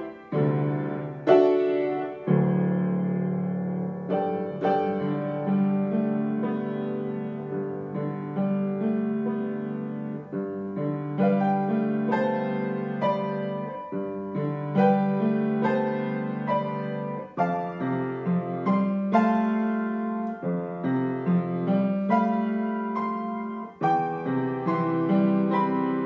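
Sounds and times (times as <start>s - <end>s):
solo piano playing: 0.0s - 26.0s.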